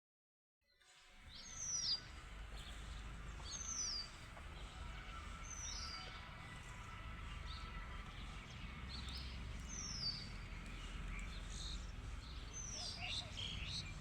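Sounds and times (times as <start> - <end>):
bird chirping: 1.2 - 14.0
low steady rumble: 1.2 - 14.0.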